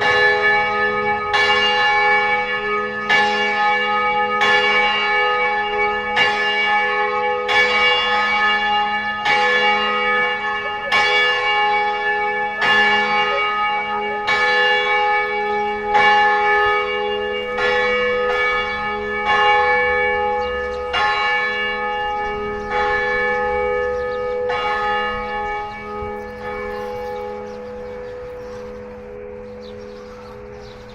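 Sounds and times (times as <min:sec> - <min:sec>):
church bells ringing: 0:00.0 - 0:30.9.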